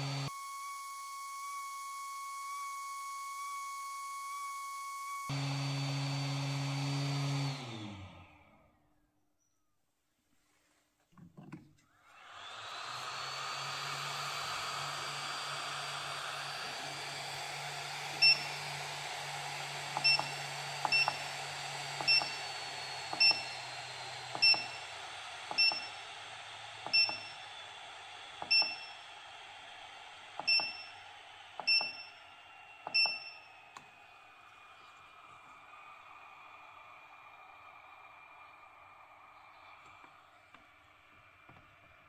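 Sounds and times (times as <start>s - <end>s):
hot air gun blowing with fan whine: 0.0s - 8.6s, 12.0s - 42.0s.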